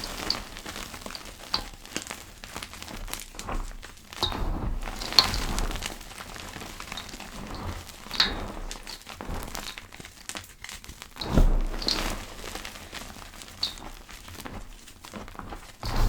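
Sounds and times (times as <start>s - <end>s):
chalk crackling and crunching: 0.0s - 16.0s.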